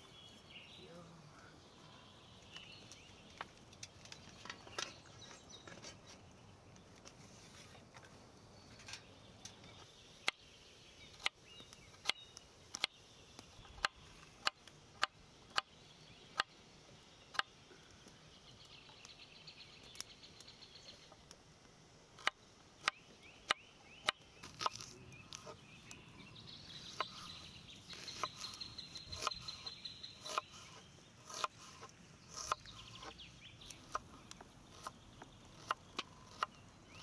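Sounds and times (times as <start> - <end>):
faint outdoor background: 0.0 - 37.0.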